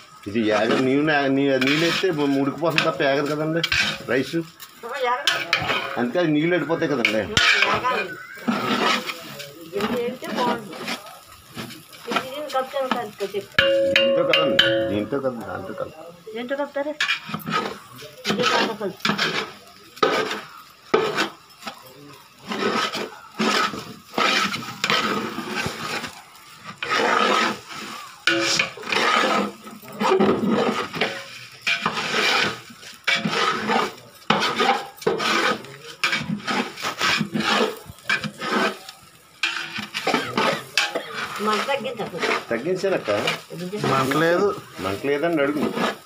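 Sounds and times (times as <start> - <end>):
metal spoon scraping a metal pot: 0.3 - 15.9, 17.0 - 44.8, 45.4 - 46.0.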